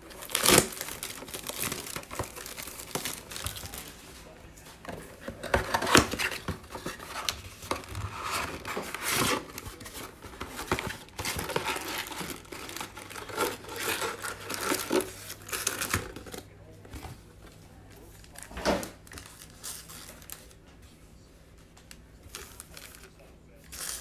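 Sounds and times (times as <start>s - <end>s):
plastic wrap tearing and crinkling: 0.0s - 4.0s, 5.1s - 16.5s, 18.2s - 20.6s, 22.3s - 24.0s.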